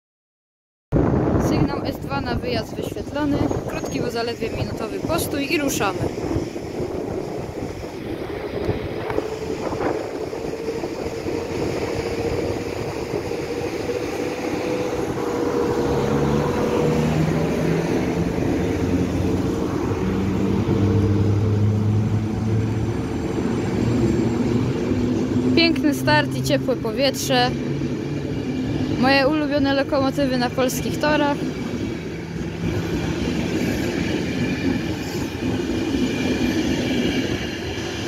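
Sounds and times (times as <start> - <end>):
electric locomotive whine: 1.0 - 38.0
rumble of train wheels: 1.0 - 38.0.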